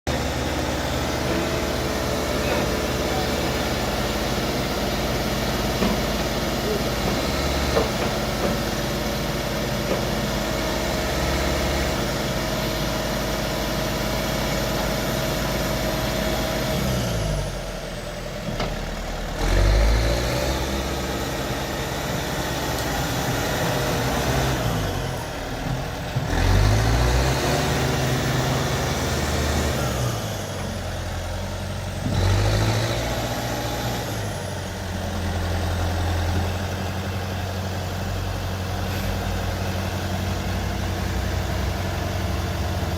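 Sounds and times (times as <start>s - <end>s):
diesel engine running: 0.1s - 42.9s.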